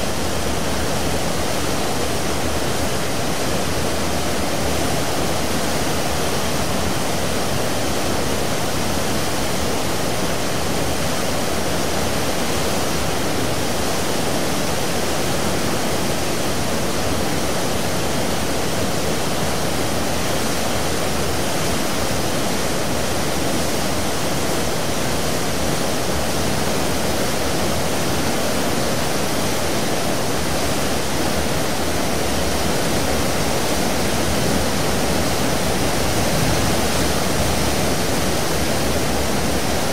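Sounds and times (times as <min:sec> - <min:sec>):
wake water rushing: 0:00.0 - 0:39.9.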